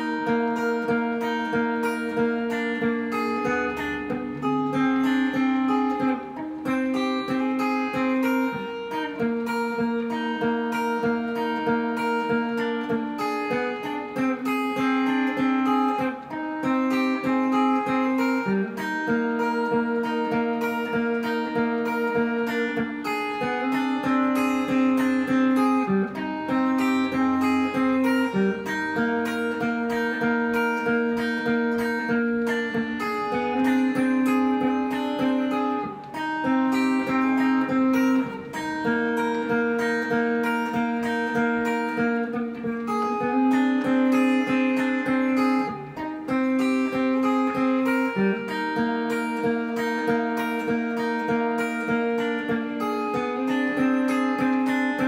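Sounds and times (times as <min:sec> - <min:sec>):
electric guitar melodic line: 0:00.0 - 0:55.0.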